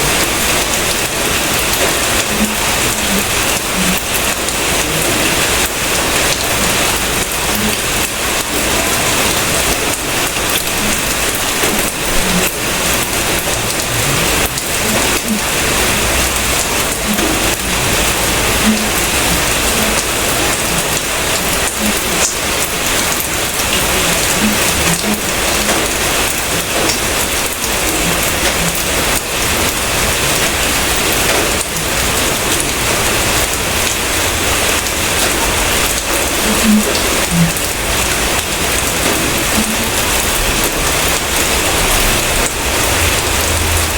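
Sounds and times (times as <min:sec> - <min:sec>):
steady rain on a surface: 0:00.0 - 0:43.9.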